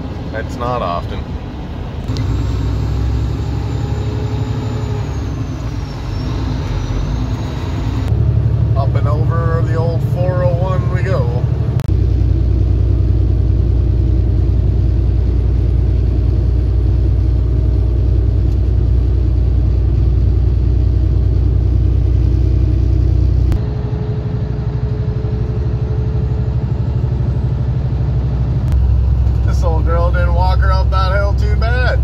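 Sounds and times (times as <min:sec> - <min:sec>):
truck engine and tyre drone: 0:00.0 - 0:32.0.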